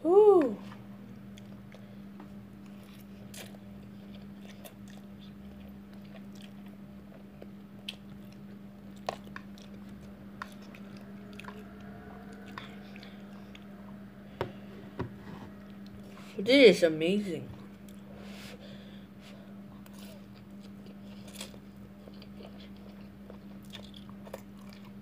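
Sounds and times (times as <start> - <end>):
steady low hum: 0.0 - 25.0
person chewing noodles: 0.6 - 14.6, 17.8 - 25.0.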